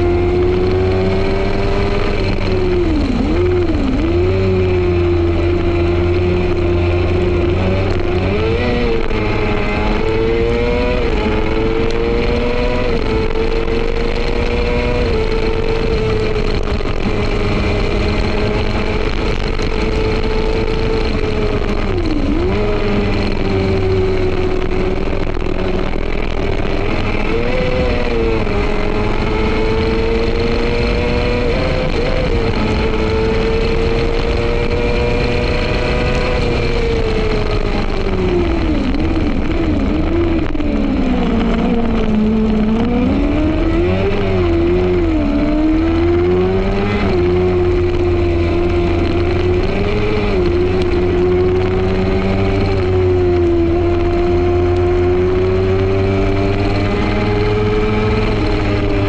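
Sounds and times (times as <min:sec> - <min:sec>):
racing engine at high revs: 0:00.0 - 0:59.0.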